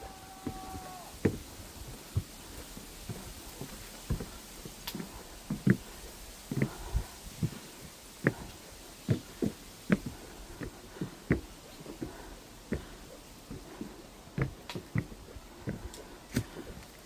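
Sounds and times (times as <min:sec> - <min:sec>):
faint steady hiss: 0:00.0 - 0:17.0
soft low thumps and knocks: 0:01.2 - 0:17.0.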